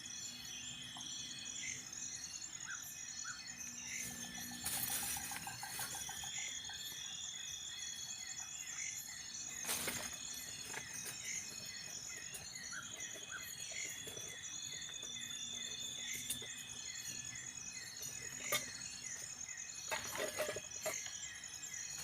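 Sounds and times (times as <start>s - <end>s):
bird trill: 0.0s - 22.0s
insect chorus: 0.0s - 22.0s.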